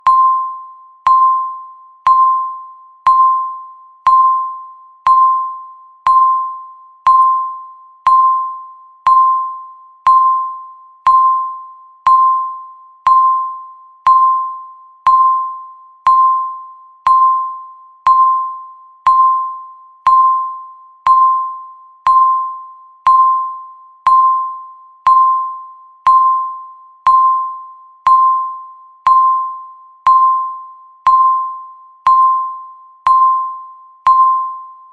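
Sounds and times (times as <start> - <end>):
short electronic timer beeps: 0.0 - 34.9.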